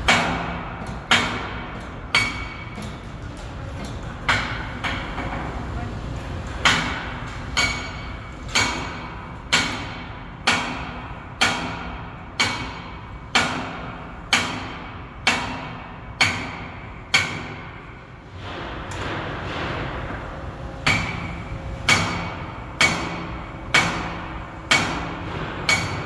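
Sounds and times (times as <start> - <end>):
hammer striking steel: 0.0 - 2.8, 6.6 - 19.9, 20.8 - 26.0.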